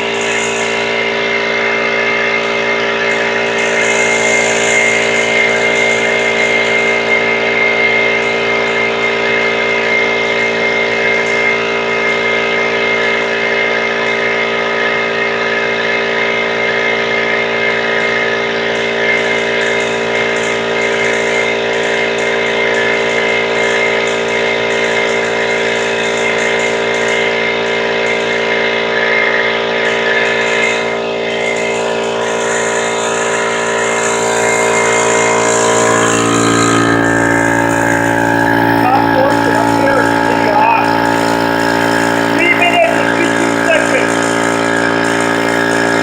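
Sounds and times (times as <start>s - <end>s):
air compressor running: 0.0s - 46.0s.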